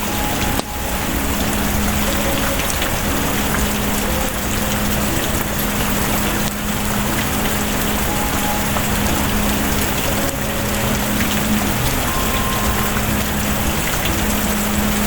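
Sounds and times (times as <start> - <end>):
heavy rain: 0.0 - 15.0
low steady hum: 0.0 - 15.0
wood fire crackling: 0.0 - 15.0.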